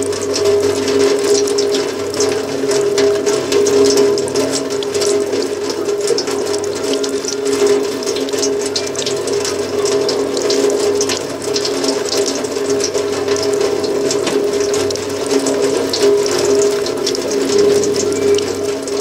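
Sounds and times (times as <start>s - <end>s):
crackling clicking texture: 0.0s - 19.0s.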